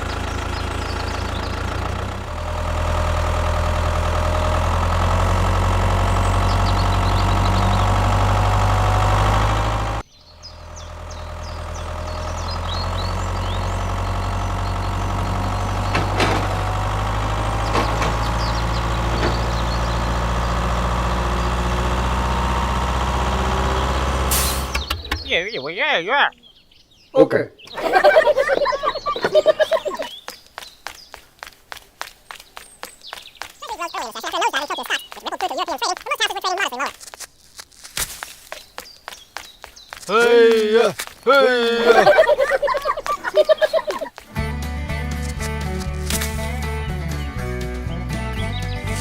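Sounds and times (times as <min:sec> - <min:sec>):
tractor engine running: 0:00.0 - 0:25.5, 0:27.7 - 0:49.0.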